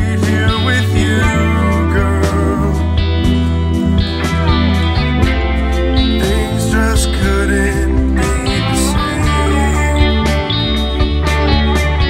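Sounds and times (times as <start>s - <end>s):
deep sustained bass notes: 0.0s - 12.0s
strummed guitar song: 0.0s - 12.0s.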